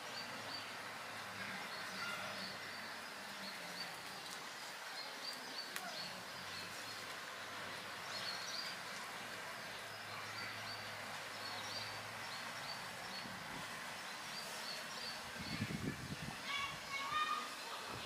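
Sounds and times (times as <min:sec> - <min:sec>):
small birds chirping: 0:00.0 - 0:18.0
steady background hiss: 0:00.0 - 0:18.0.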